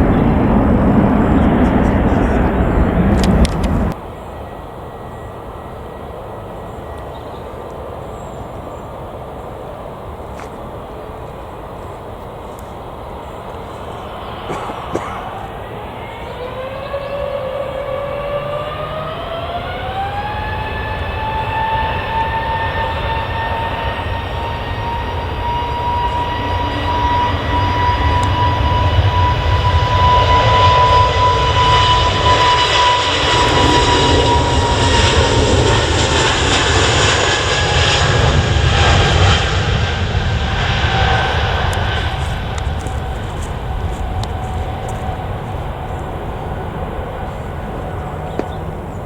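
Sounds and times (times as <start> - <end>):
jet engine roar: 0.0 - 49.0
jet engine whine: 0.0 - 49.0.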